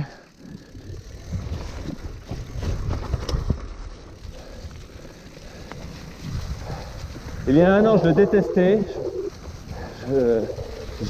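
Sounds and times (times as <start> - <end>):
bike knocking and rattling: 0.0 - 11.0
tyres crunching over stones: 1.3 - 11.0.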